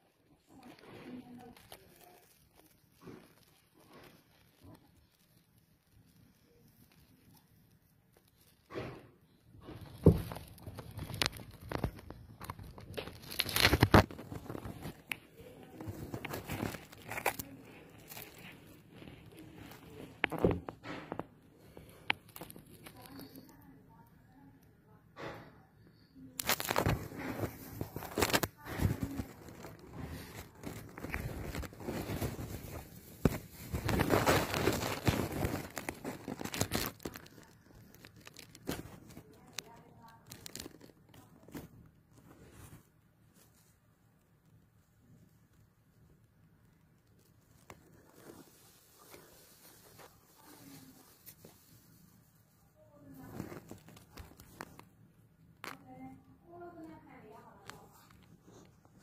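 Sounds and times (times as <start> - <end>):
rustling handling noise: 0.2 - 24.0, 26.4 - 59.0.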